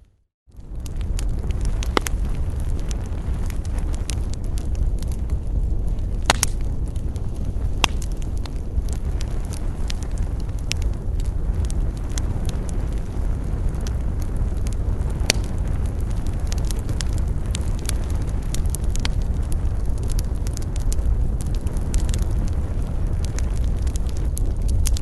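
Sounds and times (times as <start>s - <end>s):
campfire crackling and popping: 0.5s - 25.0s.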